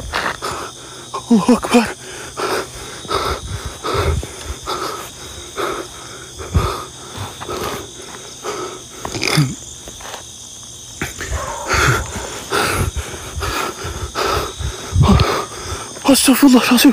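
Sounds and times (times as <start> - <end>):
person breathing hard: 0.0 - 9.7, 11.0 - 16.0.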